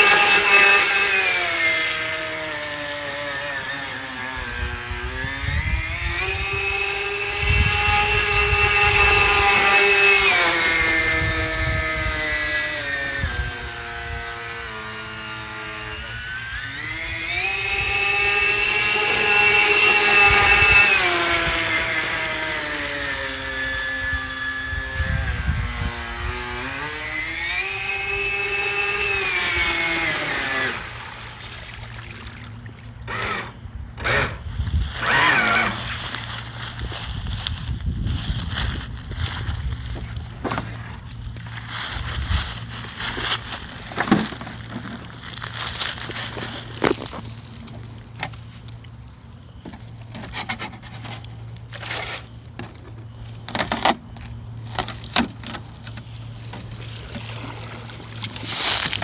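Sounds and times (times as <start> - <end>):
electric motor whining: 0.0 - 59.0.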